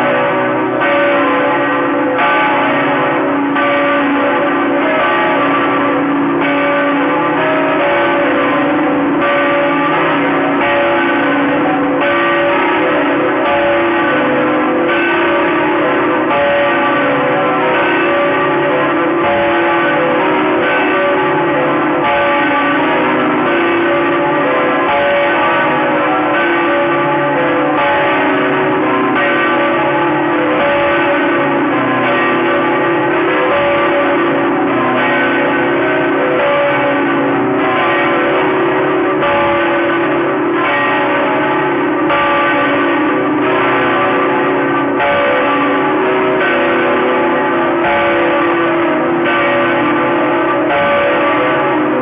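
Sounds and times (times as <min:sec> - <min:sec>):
church bells pealing: 0:00.0 - 0:52.0.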